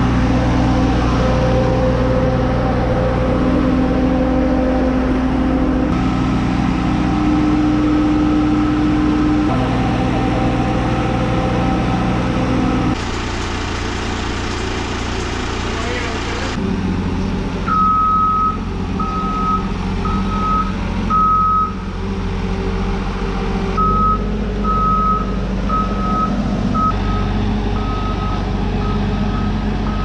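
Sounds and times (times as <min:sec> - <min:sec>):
lift engine running: 0:00.0 - 0:30.0.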